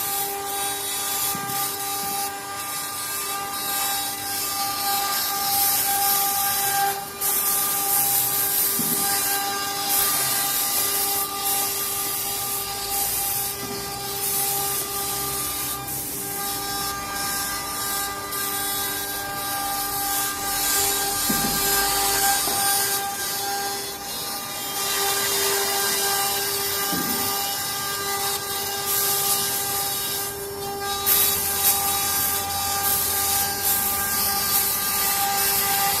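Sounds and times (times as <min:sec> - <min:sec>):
router bit cutting wood: 0:00.0 - 0:36.0
router spindle whine: 0:00.0 - 0:36.0.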